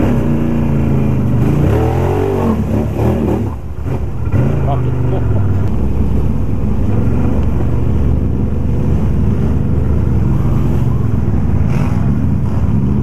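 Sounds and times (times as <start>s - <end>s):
quad engine rumbling: 0.0s - 13.0s.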